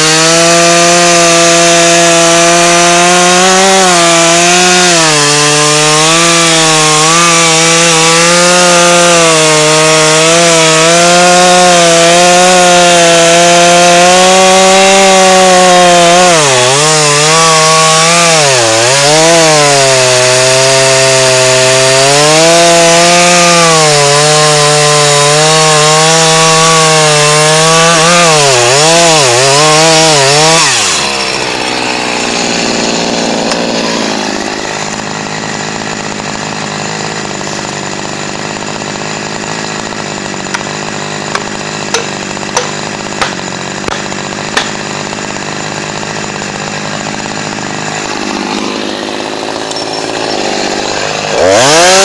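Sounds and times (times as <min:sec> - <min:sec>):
chainsaw cutting wood: 0:00.0 - 0:52.0
chainsaw idling: 0:00.0 - 0:52.0.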